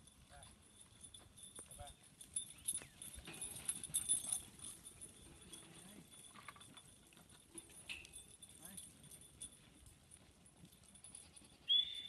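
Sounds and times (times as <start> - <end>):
sheep hooves clattering: 0.0 - 11.7.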